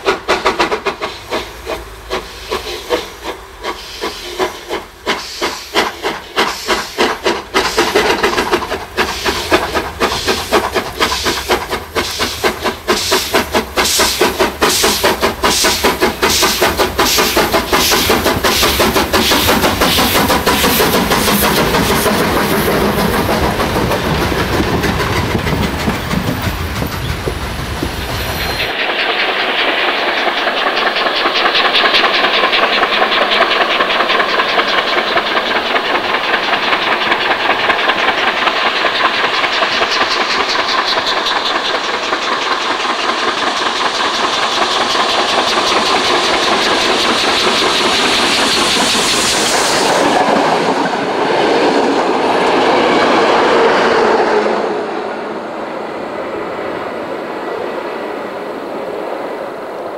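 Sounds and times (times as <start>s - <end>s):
train wheel clatter: 0.0s - 54.6s
steam locomotive exhaust beats: 0.0s - 59.8s.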